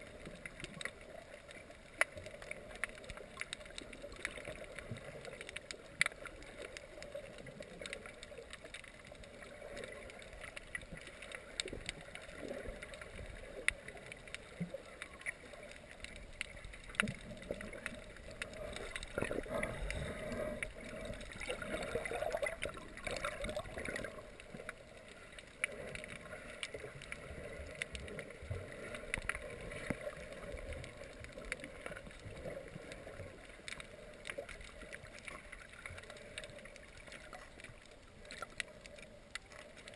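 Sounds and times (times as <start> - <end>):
sharp clicks and crackles: 0.0 - 39.9
water swishing and gurgling underwater: 0.0 - 39.9.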